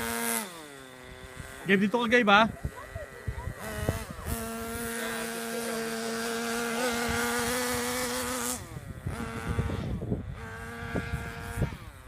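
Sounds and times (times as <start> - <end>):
small motor buzzing: 0.0 - 12.0.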